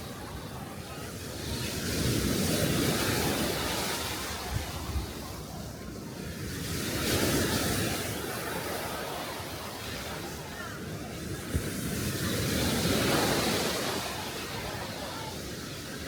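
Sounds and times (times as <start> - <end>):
small sea waves washing ashore: 0.0 - 16.0.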